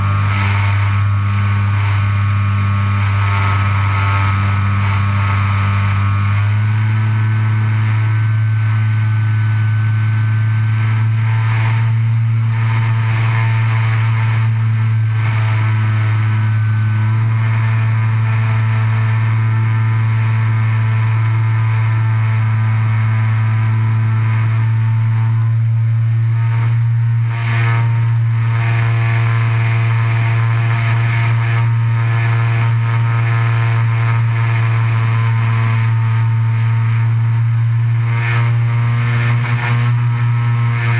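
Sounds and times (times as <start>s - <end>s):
model plane motor buzzing: 0.0s - 40.9s.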